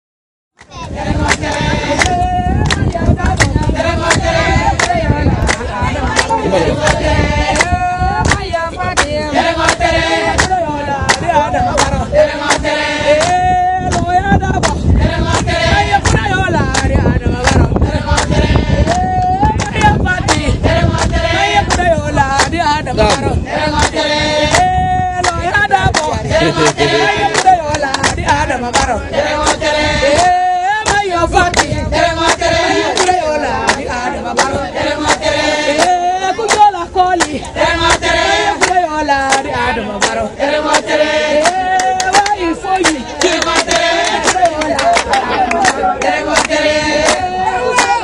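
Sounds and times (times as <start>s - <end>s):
mixed chorus singing: 0.6s - 48.0s
rhythmic percussive beats: 1.0s - 48.0s.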